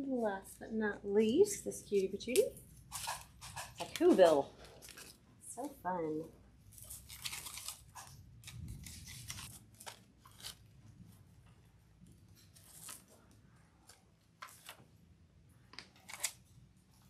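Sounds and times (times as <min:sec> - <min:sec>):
artificial flowers rustling and crinkling: 0:01.3 - 0:17.0.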